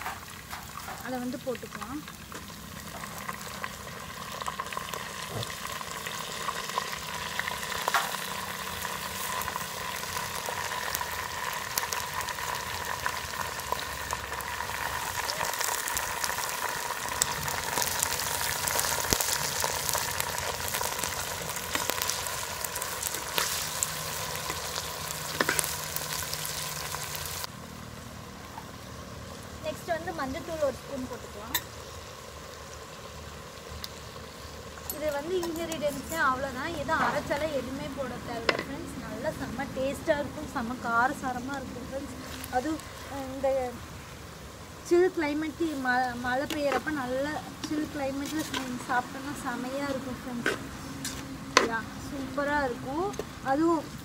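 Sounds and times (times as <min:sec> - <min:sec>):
chicken frying in hot oil: 0:00.0 - 0:54.0.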